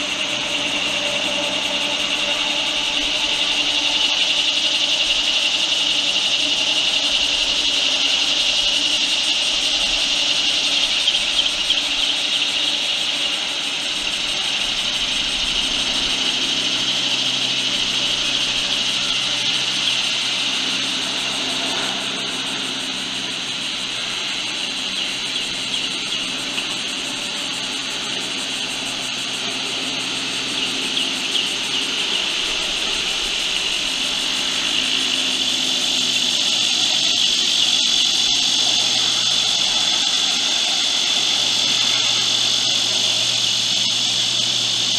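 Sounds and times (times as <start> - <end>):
steady high-pitched drone: 0.0 - 44.9.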